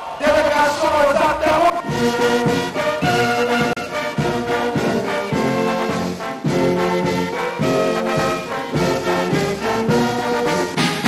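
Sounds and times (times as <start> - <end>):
brass music: 0.2 - 11.0.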